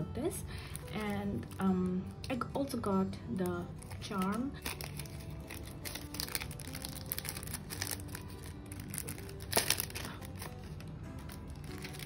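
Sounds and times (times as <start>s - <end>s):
soft background music: 0.0s - 12.0s
plastic packaging crinkling: 0.4s - 2.3s, 3.6s - 12.0s.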